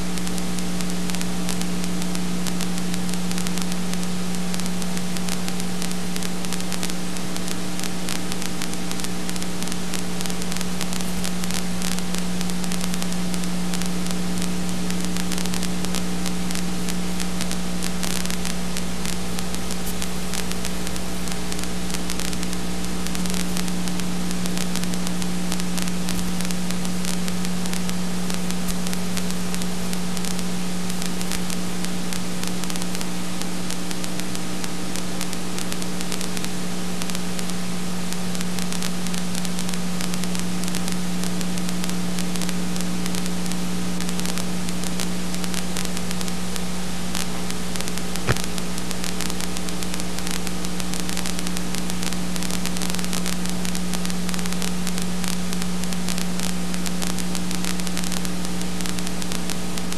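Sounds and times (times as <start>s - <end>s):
hiss and electrical hum: 0.0s - 59.9s.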